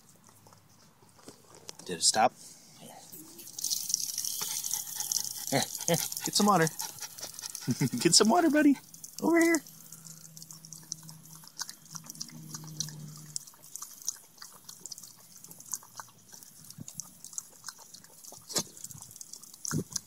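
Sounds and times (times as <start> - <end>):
dog lapping water: 3.2 - 20.0
water dripping: 3.2 - 20.0.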